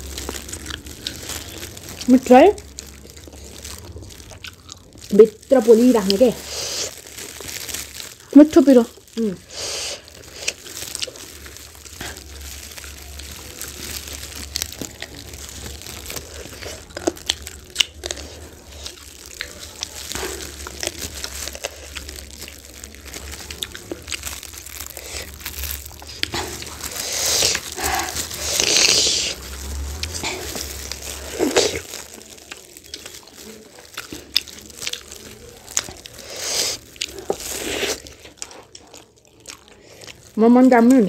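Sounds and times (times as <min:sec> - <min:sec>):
biting and chewing food: 0:00.0 - 0:41.0
plastic gloves crinkling: 0:00.0 - 0:41.0.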